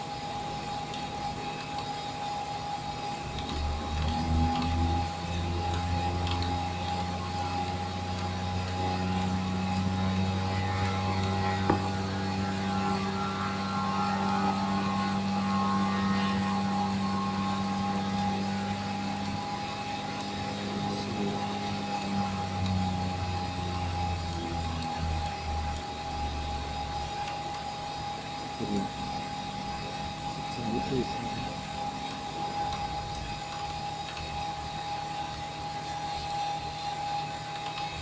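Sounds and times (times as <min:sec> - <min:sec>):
high steady whine: 0:00.0 - 0:38.0
low machine hum: 0:00.0 - 0:38.0.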